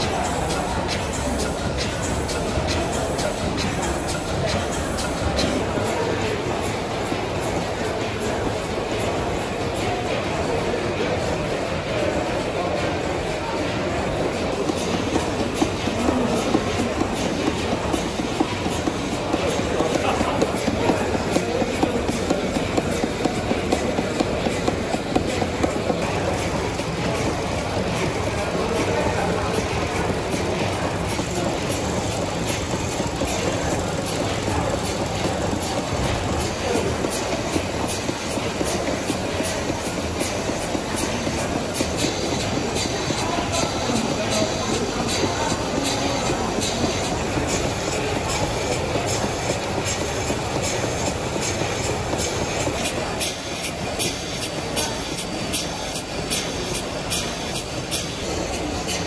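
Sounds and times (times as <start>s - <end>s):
steam engine running: 0.0s - 59.0s.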